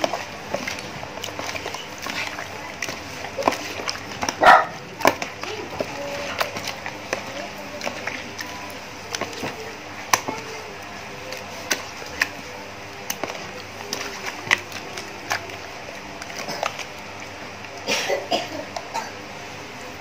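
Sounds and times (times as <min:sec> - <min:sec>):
wet squelches and slaps: 0:00.0 - 0:17.8.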